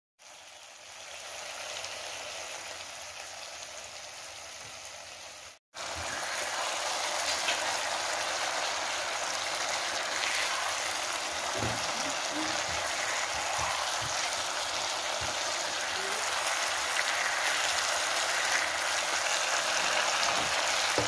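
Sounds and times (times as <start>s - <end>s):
chicken sizzling in a pan: 0.2s - 21.0s.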